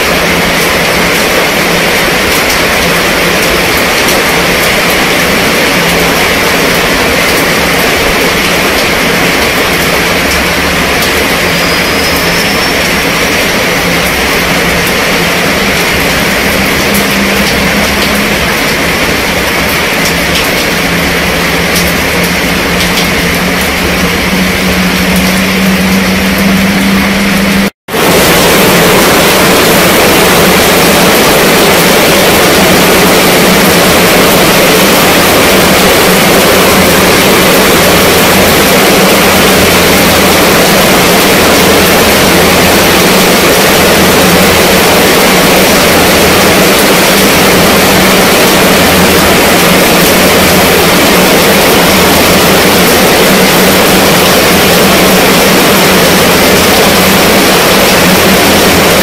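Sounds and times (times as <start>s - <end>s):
heavy rain on tent canopy: 0.0s - 59.0s.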